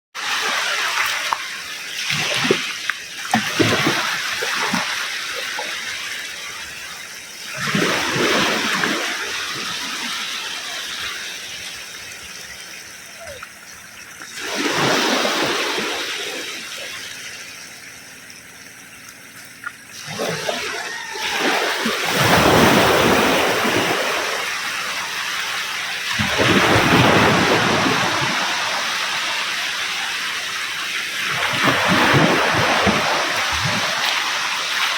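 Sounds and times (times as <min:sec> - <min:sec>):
ocean waves breaking on beach: 0:00.2 - 0:18.5, 0:19.9 - 0:34.9.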